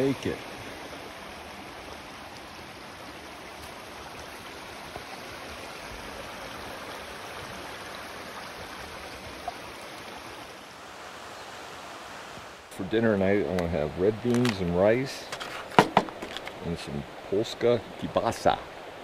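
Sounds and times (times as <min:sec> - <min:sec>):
creek rushing over stones: 0:00.0 - 0:19.0.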